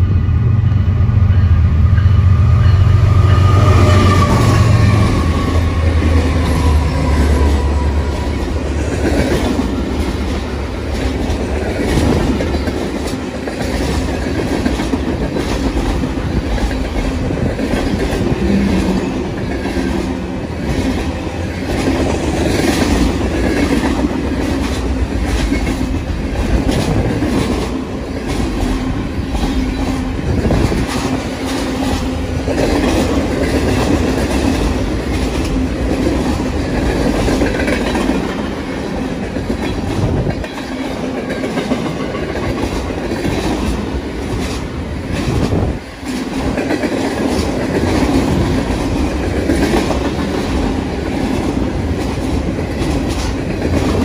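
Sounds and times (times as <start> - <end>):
diesel locomotive engines: 0.0 - 54.0
train wheels clickety-clack: 1.3 - 54.0.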